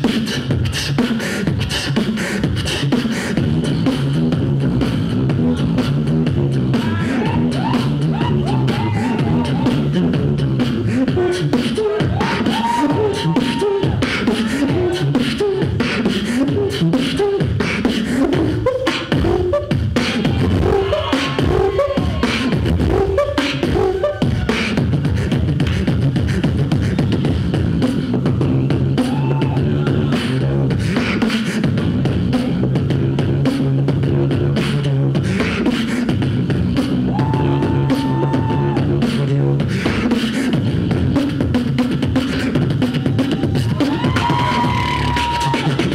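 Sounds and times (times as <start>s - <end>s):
person beatboxing: 0.0s - 45.9s.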